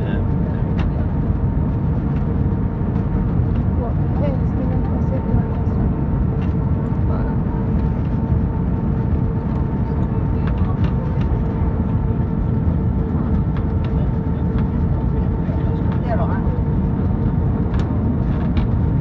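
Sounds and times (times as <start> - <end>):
aircraft engine rumble: 0.0 - 19.0
constant hum tone: 0.0 - 19.0.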